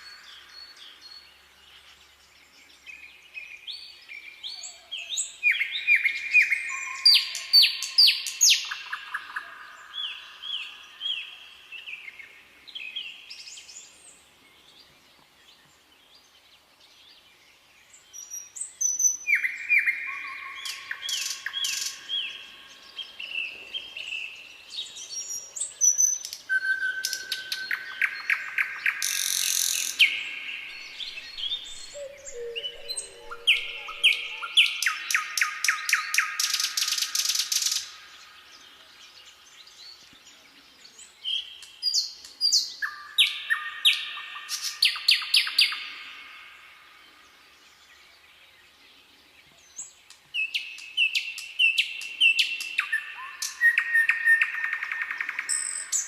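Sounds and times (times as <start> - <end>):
wild birds trilling and whistling: 0.0 - 56.0.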